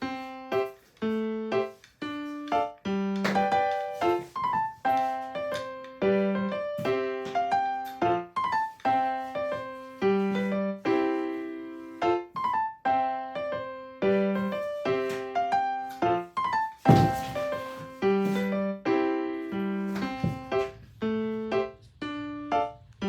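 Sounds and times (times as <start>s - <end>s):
plucky piano tune: 0.0s - 23.0s.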